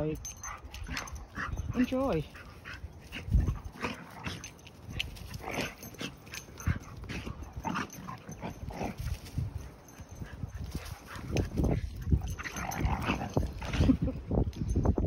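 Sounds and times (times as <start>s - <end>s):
dogs play-fighting: 0.2s - 14.8s.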